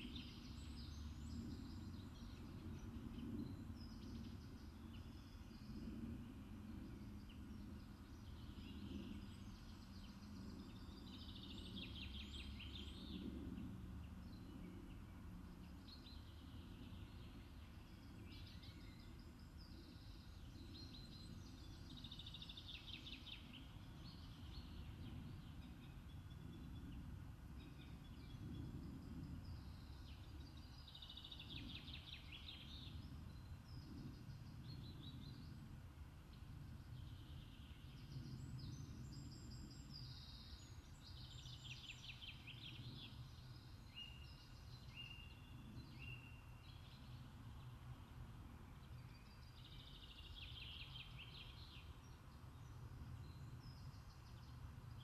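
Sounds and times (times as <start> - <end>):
small birds singing: 0.0 - 55.0.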